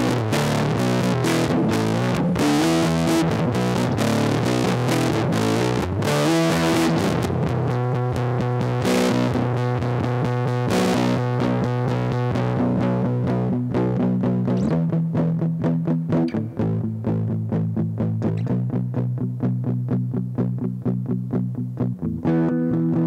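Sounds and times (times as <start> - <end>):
fuzz electric guitar: 0.0 - 23.0.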